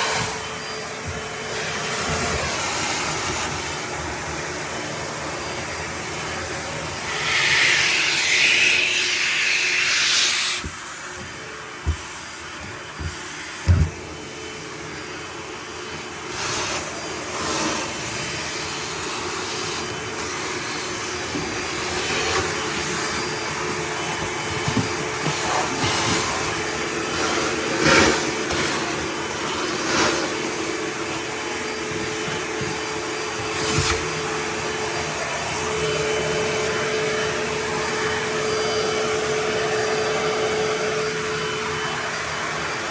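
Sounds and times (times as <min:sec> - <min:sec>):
vacuum blower roaring: 0:00.0 - 0:42.9.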